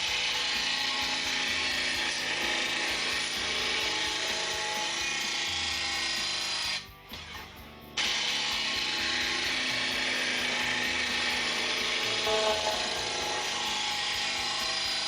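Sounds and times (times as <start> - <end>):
grinding wheel on steel blade: 0.0 - 7.3, 7.9 - 15.0.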